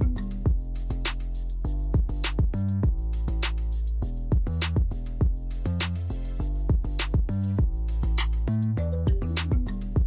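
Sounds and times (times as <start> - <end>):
drum beat with bass line: 0.0 - 10.0.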